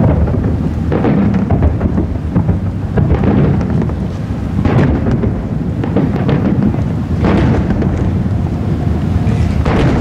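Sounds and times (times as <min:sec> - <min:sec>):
firework shells bursting: 0:00.0 - 0:08.3, 0:09.2 - 0:10.0
firework crackle: 0:00.0 - 0:10.0.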